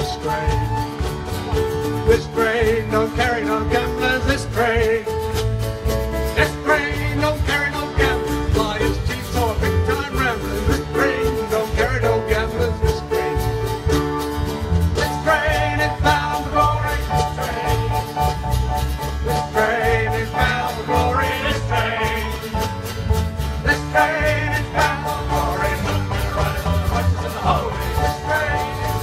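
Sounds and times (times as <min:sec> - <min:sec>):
country-folk band playing: 0:00.0 - 0:29.0
strummed acoustic guitar: 0:00.0 - 0:29.0.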